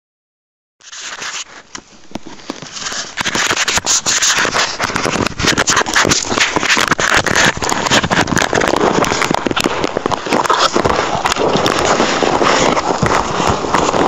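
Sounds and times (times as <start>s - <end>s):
microphone handling scraping: 0.8s - 14.0s.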